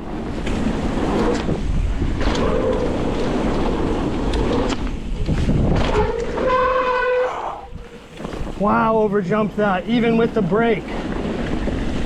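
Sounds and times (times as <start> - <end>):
tyres rumbling over dirt: 0.0 - 7.2, 7.8 - 12.0
wind buffeting microphone: 0.0 - 12.0.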